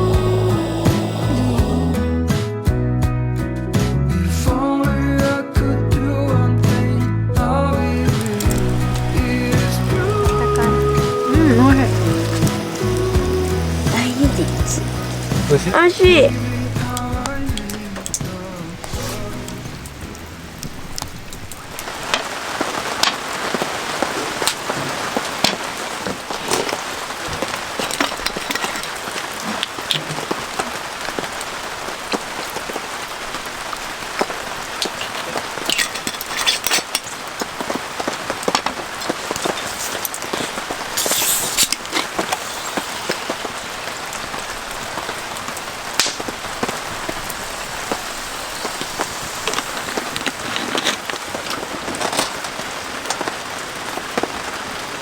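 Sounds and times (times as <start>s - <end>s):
campfire crackling and popping: 0.0s - 2.7s, 7.6s - 55.0s.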